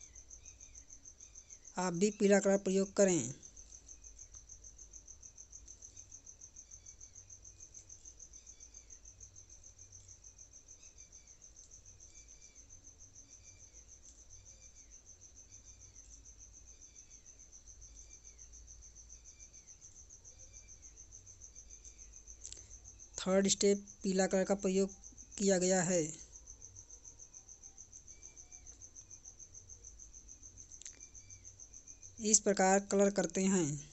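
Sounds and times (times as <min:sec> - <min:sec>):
cricket trilling: 0:00.0 - 0:33.9.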